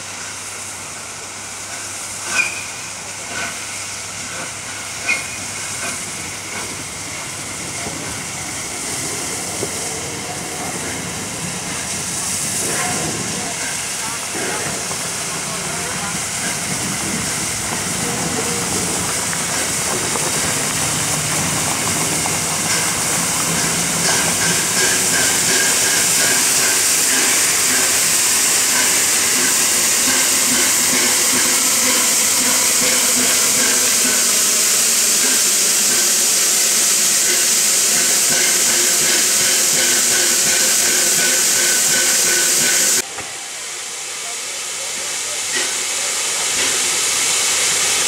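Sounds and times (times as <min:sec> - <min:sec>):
steam hissing: 0:00.0 - 0:48.0.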